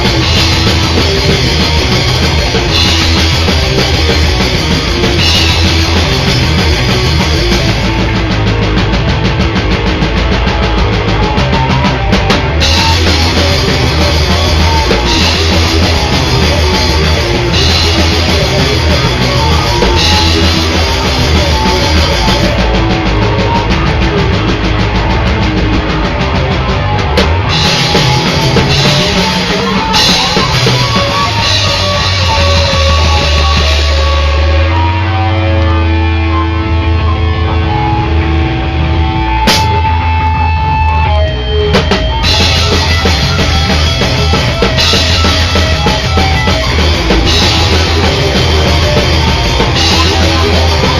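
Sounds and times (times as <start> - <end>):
distorted electric guitar: 0.0 - 50.9
drum kit: 0.0 - 50.9.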